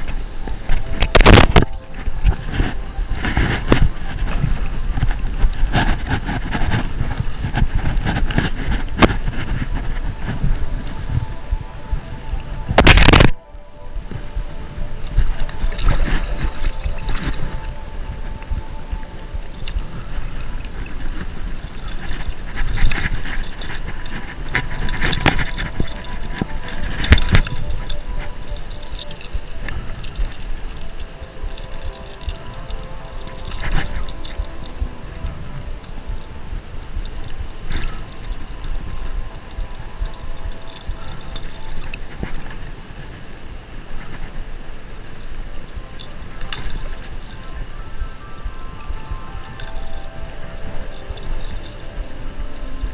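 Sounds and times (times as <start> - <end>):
moving water: 0.0 - 52.9
wind rumbling on microphone: 0.0 - 52.9.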